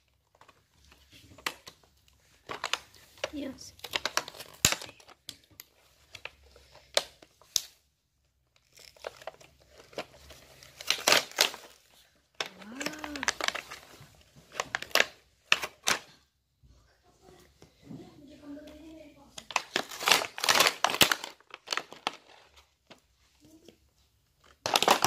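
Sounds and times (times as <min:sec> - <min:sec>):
plastic packaging crinkling and tearing: 0:00.0 - 0:16.2, 0:19.2 - 0:23.7, 0:24.3 - 0:25.0.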